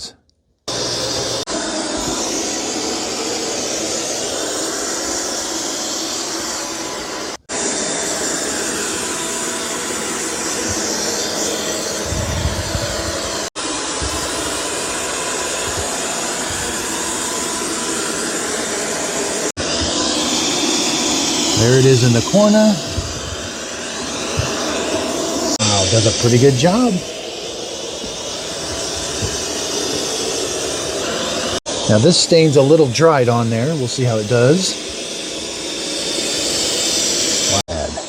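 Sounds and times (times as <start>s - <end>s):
robot vacuum whirring: 0.7s - 38.0s.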